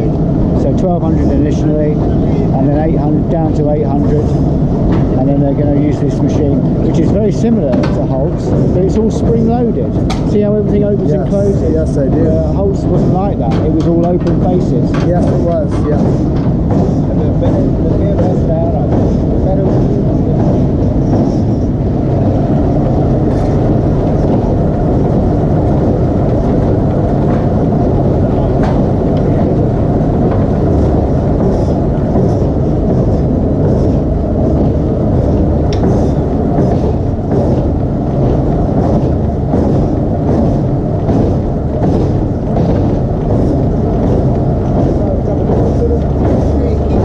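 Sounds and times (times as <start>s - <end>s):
low rumble of machinery: 0.0s - 47.0s.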